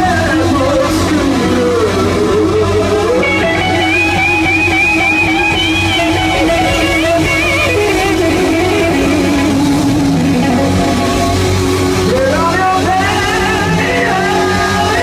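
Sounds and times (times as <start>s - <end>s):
electric guitar bent notes: 0.0s - 15.0s
rock band playing: 0.0s - 15.0s.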